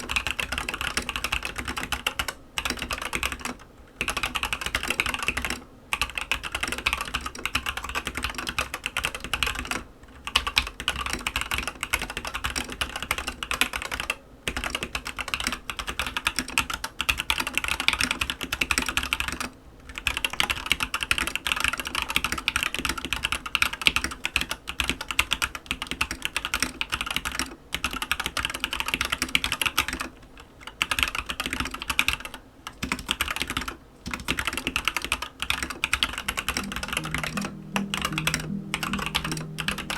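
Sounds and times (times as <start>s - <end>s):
mechanical keyboard typing: 0.0s - 30.1s, 30.8s - 37.2s.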